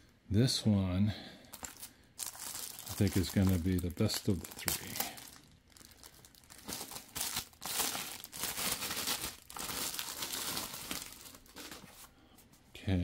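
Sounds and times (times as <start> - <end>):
plastic bag crinkling: 1.5 - 12.1.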